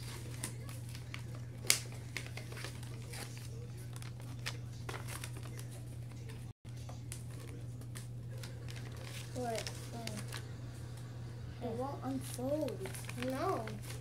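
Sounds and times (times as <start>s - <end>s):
paper rustling and crinkling: 0.0s - 11.1s, 12.0s - 14.0s.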